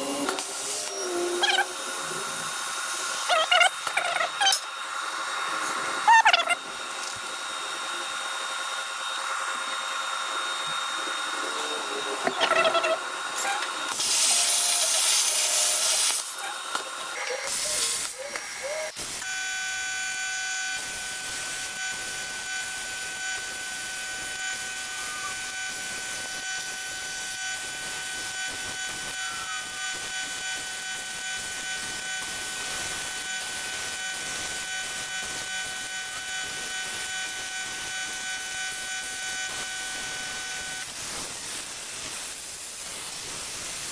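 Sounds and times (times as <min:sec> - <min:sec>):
plasma torch hissing: 0:00.0 - 0:06.0, 0:13.3 - 0:43.9
machine hum: 0:00.0 - 0:40.9.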